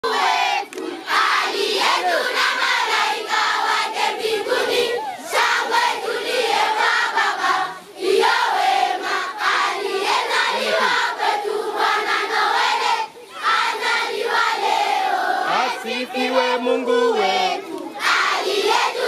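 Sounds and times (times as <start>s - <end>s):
children shouting and cheering: 0.1s - 19.0s.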